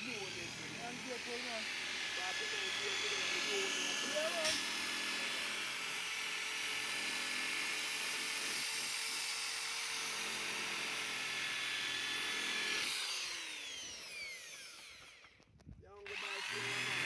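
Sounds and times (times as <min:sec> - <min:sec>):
drill motor winding down: 0:00.0 - 0:15.4, 0:16.0 - 0:17.0
electric drill running: 0:00.0 - 0:15.4, 0:16.0 - 0:17.0.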